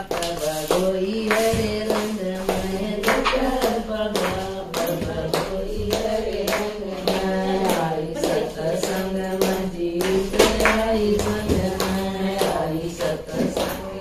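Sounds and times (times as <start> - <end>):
hands clapping in time: 0.0 - 13.8
women singing together: 0.0 - 14.0.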